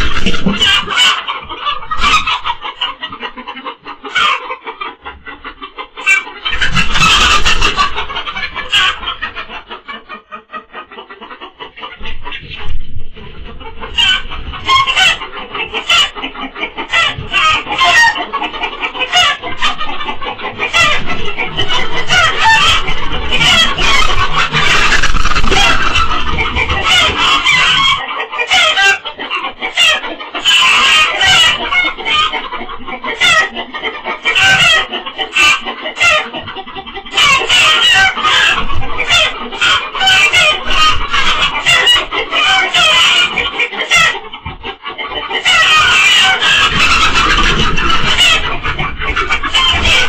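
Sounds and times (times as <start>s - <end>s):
hens squawking in alarm: 0.0s - 50.0s.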